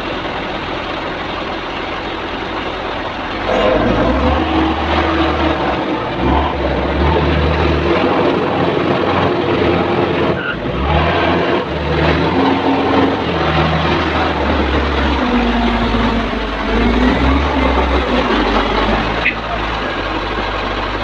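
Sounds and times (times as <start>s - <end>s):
wheel loader diesel engine: 0.0s - 21.0s.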